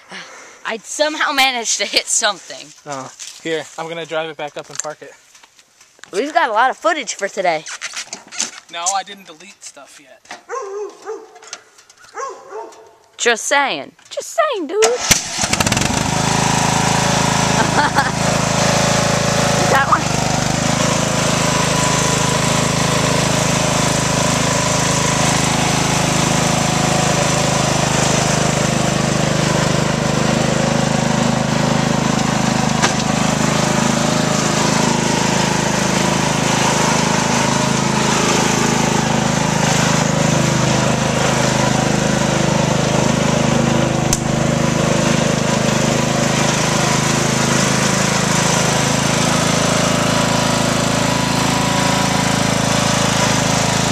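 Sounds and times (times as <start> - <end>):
riding lawnmower engine running: 0.0 - 7.6, 8.6 - 14.1, 14.8 - 53.9.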